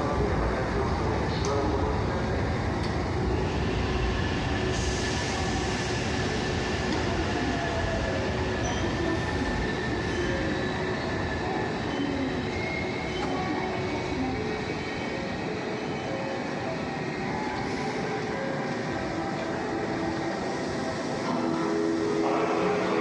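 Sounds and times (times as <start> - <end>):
train wheels rumbling on rail: 0.0 - 21.6.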